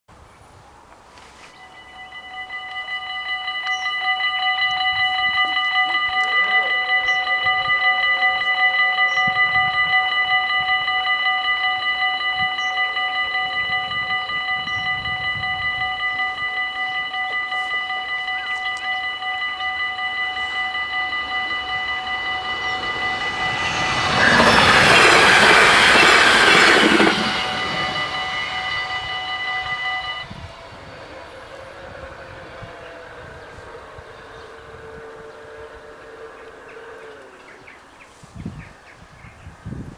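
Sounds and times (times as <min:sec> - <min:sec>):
train passing over crossing: 0:01.5 - 0:39.9
level crossing bells ringing: 0:01.6 - 0:38.0.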